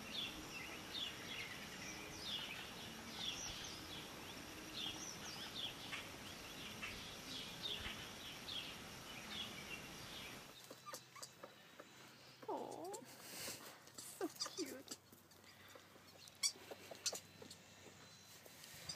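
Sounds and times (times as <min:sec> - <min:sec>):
outdoor background noise: 0:00.0 - 0:18.9
small birds chirping: 0:00.0 - 0:18.9.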